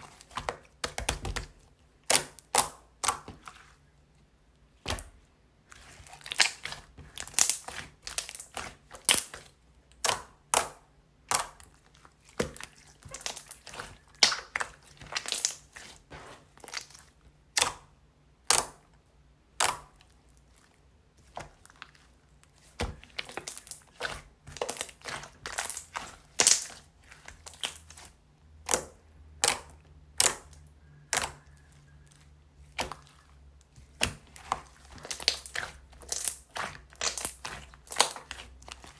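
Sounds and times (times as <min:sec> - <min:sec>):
slime squishing with sticky clicks: 0:00.0 - 0:38.9.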